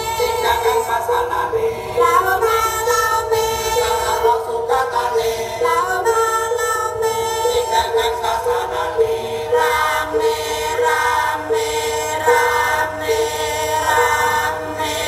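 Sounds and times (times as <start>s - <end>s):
music with sung vocal melody: 0.0s - 15.0s.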